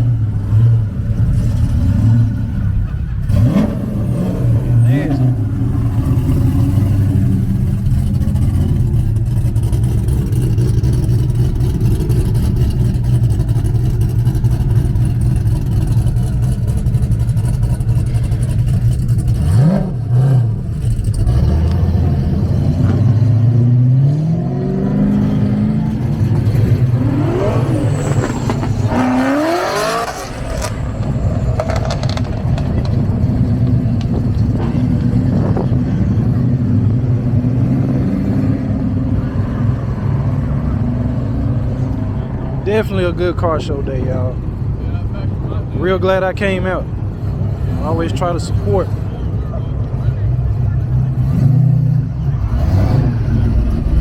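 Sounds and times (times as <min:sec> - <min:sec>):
car engines idling and revving: 0:00.0 - 0:54.0.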